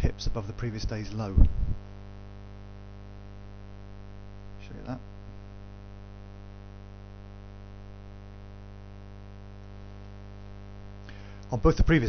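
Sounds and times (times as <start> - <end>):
buzzy electrical hum: 0.0 - 12.0.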